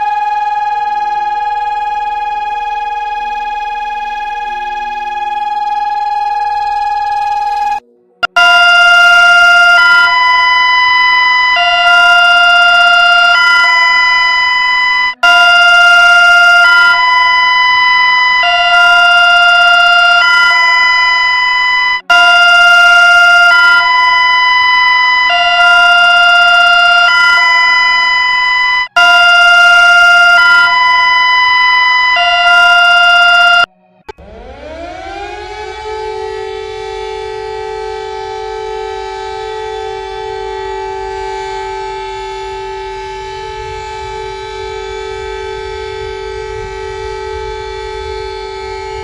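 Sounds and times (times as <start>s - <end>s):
electronic hi-lo alarm: 0.0s - 49.0s.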